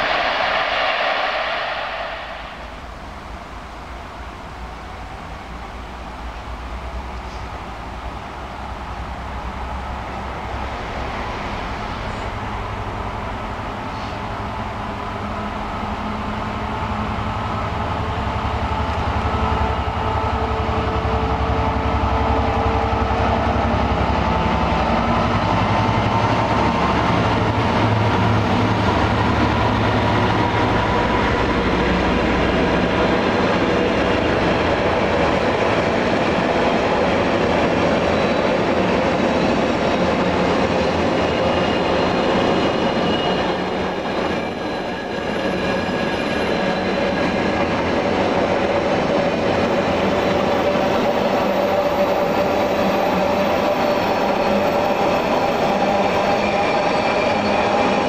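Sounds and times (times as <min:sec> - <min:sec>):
locomotive low drone: 0:00.0 - 0:54.5
train wheel and rail noise: 0:00.0 - 0:58.0.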